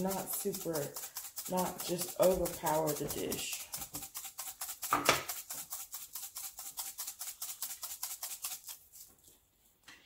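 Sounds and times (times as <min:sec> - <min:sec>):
pepper flakes shaken from container: 0:00.0 - 0:09.1.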